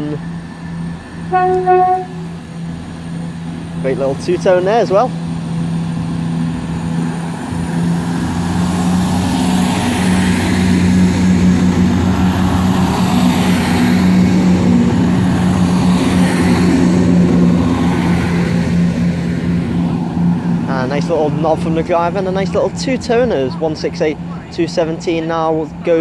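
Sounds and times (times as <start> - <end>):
diesel train engine pulling away: 0.0 - 26.0.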